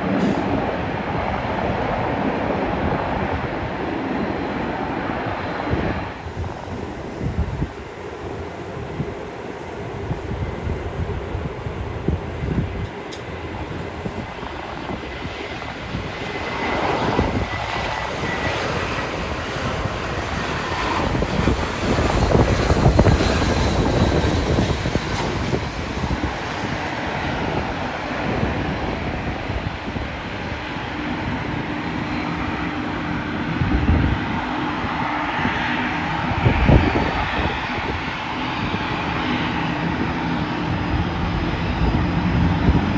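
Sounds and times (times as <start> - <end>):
jet airliner engine roar: 0.0 - 42.9.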